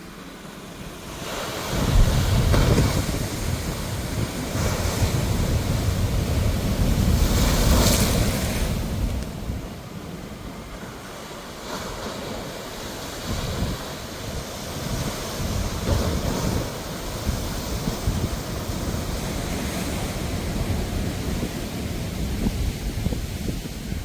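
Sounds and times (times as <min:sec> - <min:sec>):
sea waves breaking: 0:00.0 - 0:24.0
wind rumbling on microphone: 0:00.0 - 0:24.0.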